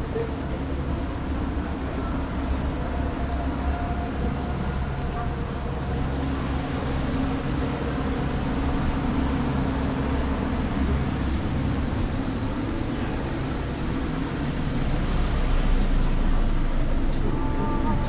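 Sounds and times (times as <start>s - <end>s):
traffic engines humming: 0.0s - 18.0s.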